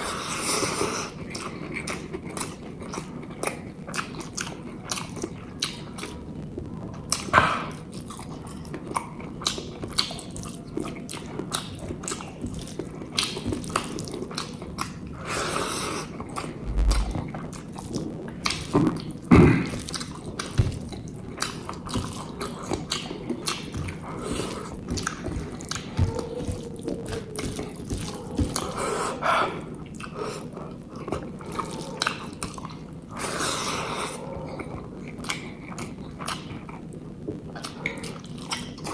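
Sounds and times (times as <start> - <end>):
person chewing food: 0.0 - 6.3, 6.9 - 38.9.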